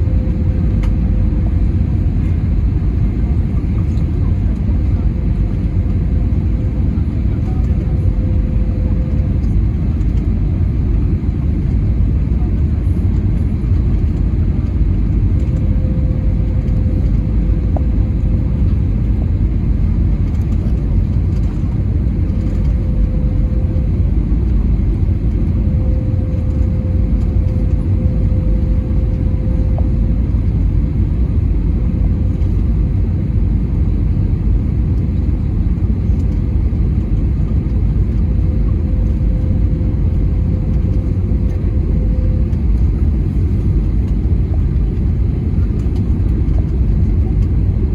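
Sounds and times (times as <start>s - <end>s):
aircraft cabin rumble: 0.0s - 47.9s
faint steady whine: 0.0s - 47.9s.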